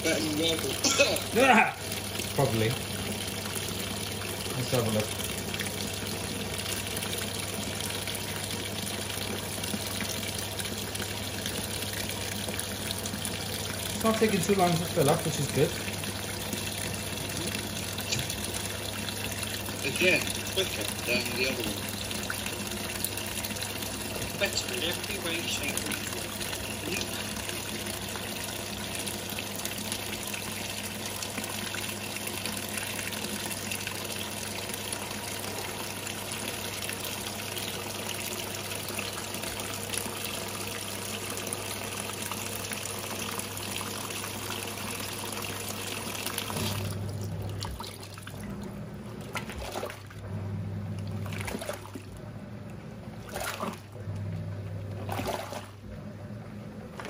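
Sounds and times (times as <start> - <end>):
washing machine motor humming: 0.0 - 57.0
water pouring into washing machine: 0.0 - 57.0.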